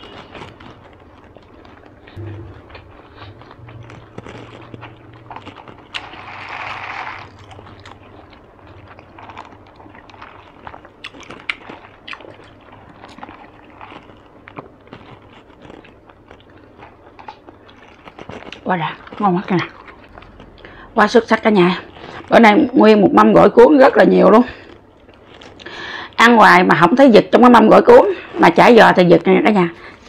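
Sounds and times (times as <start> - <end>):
faint low hum: 0.0 - 27.4
chewing spring rolls: 0.0 - 28.0.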